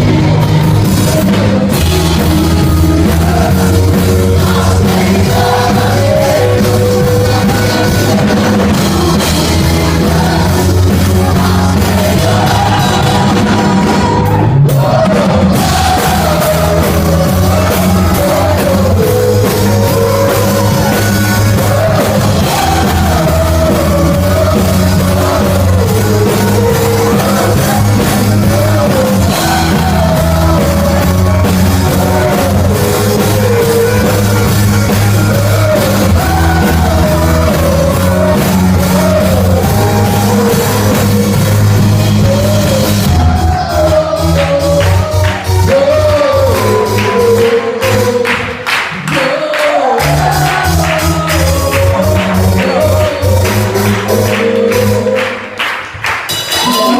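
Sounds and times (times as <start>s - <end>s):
person singing: 0.0s - 56.9s
rock band playing: 0.0s - 56.9s.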